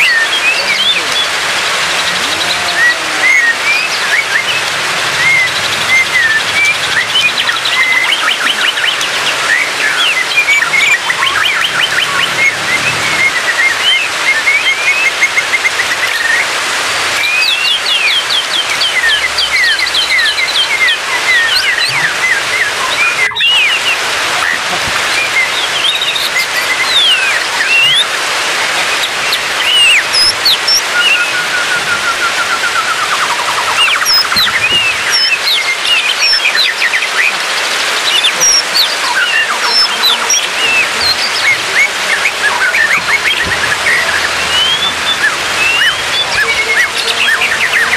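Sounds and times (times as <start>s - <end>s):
bird whistles chirps and trills: 0.0s - 47.9s
continuous rushing hiss: 0.0s - 47.9s.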